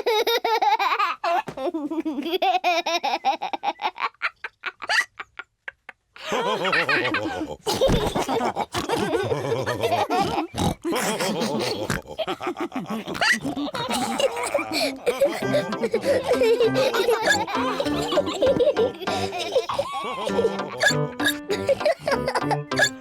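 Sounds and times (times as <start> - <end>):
cartoon pigs laughing and snorting: 0.0 - 23.0.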